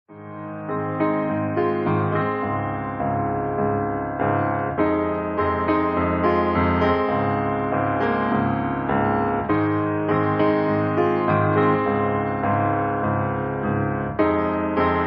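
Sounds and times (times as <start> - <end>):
piano chords: 0.1 - 15.0.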